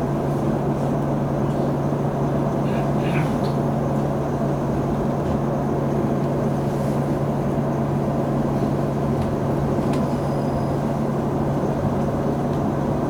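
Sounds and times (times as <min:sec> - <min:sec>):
train car interior hum: 0:00.0 - 0:13.0
train rumble: 0:00.0 - 0:13.0.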